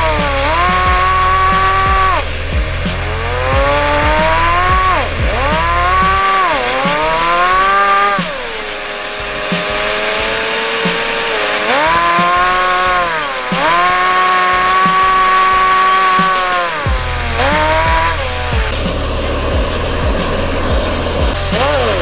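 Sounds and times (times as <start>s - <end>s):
toy turbine whining: 0.0s - 22.0s.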